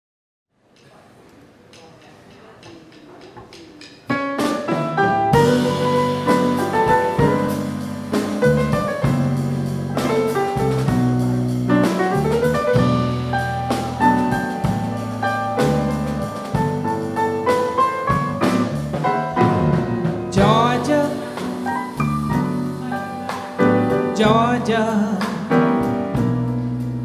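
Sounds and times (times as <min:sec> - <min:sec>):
light drum kit: 0:01.7 - 0:27.0
jazz piano: 0:03.9 - 0:27.0.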